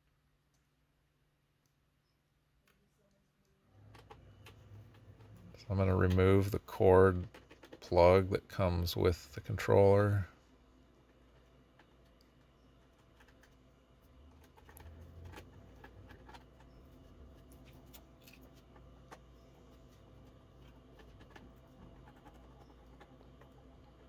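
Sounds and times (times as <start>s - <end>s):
faint clicks and scratches: 1.6s - 24.0s.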